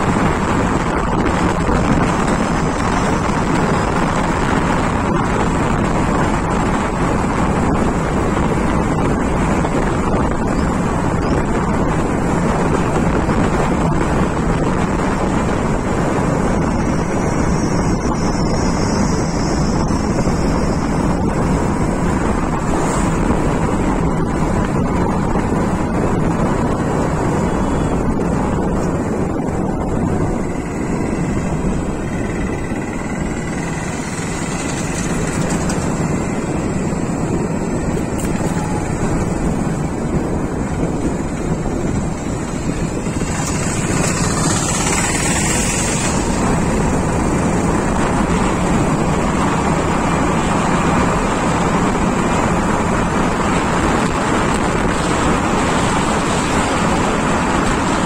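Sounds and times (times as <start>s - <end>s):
vehicle tyres on road: 0.0s - 58.0s
wind rushing over microphone: 0.0s - 58.0s.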